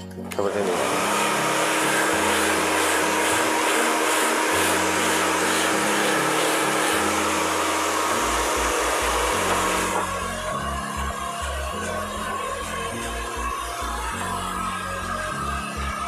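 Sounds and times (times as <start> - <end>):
hair dryer blowing: 0.4 - 16.0
background music with bass line: 2.1 - 16.0.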